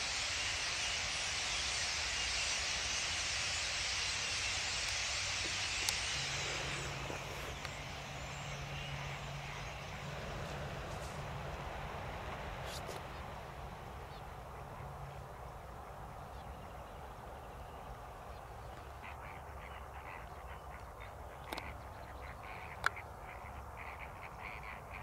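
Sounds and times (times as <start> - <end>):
outdoor hiss: 0.0 - 20.2.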